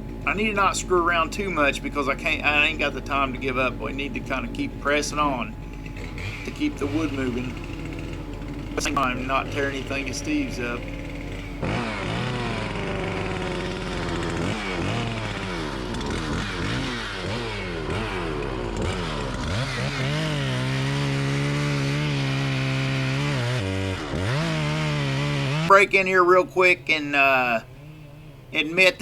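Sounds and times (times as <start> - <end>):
chainsaw revving: 0.0 - 26.3.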